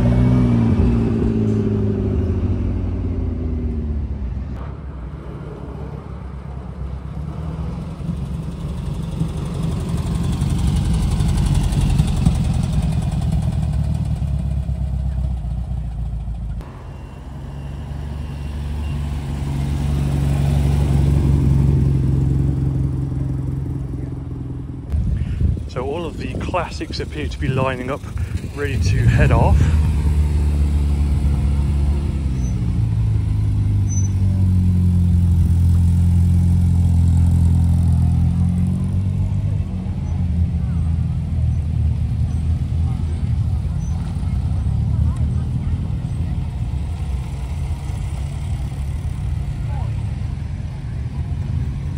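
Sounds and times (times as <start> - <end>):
air-cooled van engine passing: 0.0 - 51.9
roadster engine low note: 0.0 - 51.9
supercar engine pulling away: 0.0 - 51.9.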